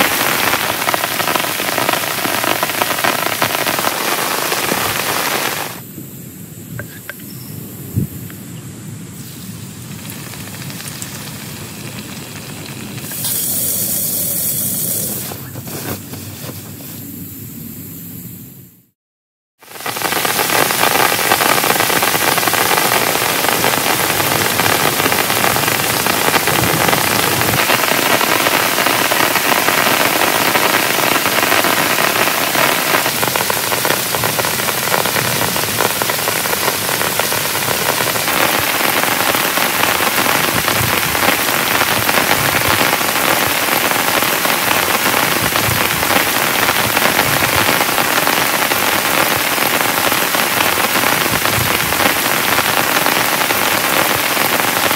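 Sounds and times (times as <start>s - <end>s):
heavy rain on a tent: 0.0s - 5.8s, 9.3s - 16.5s, 19.6s - 54.9s.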